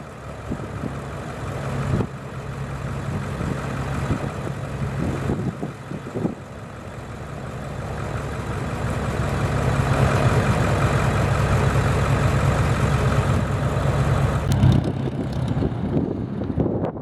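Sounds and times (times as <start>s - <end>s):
piston engine idling: 0.0s - 17.0s.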